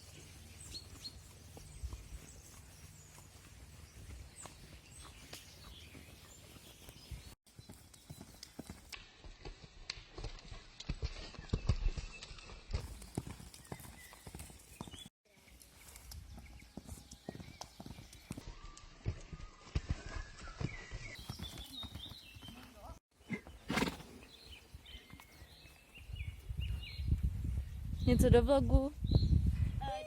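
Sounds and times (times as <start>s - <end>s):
horse hooves on hard ground: 0.0s - 26.9s.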